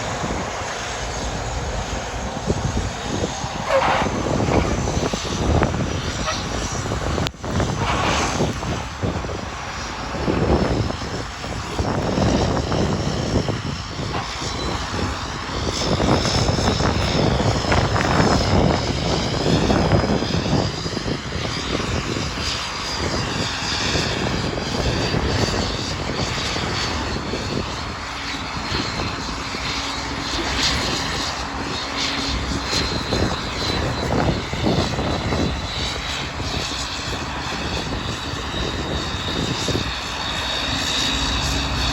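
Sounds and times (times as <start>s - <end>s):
diesel engine under load: 0.0s - 22.4s, 23.0s - 41.9s.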